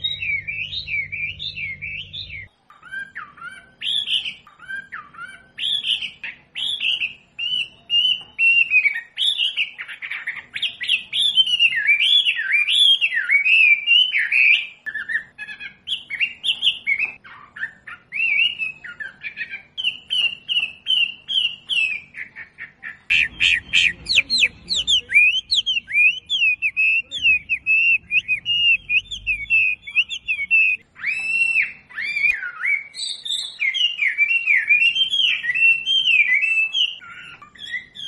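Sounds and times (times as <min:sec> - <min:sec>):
bird whistling song: 0:00.0 - 0:38.0.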